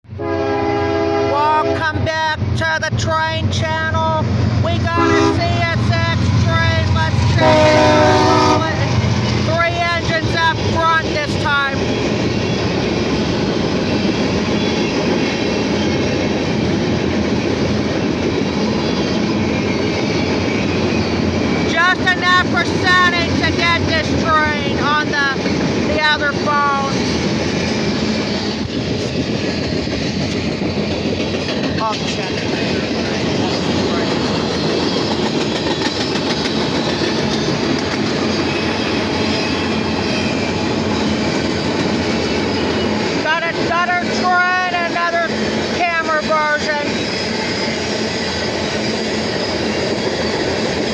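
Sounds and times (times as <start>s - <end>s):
freight train rumbling on rails: 0.0s - 50.9s.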